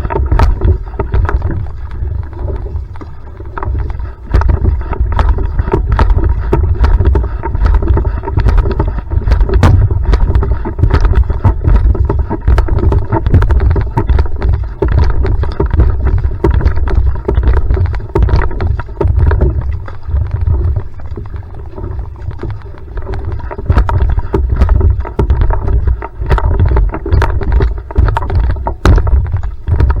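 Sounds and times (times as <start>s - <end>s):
heavy low rumble: 0.0s - 30.0s
paddle knocks and clicks: 0.0s - 30.0s
water rushing along hull: 0.0s - 30.0s.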